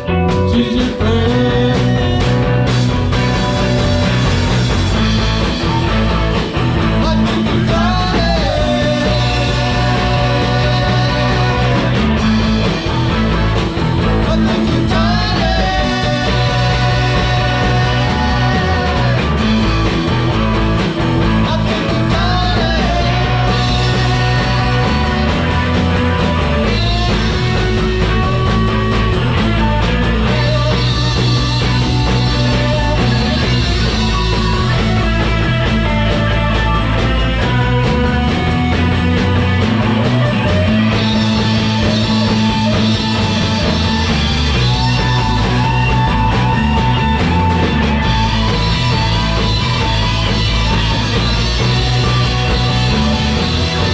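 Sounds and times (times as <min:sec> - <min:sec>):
electric guitar: 0:00.0 - 0:53.9
rock band playing: 0:00.0 - 0:53.9.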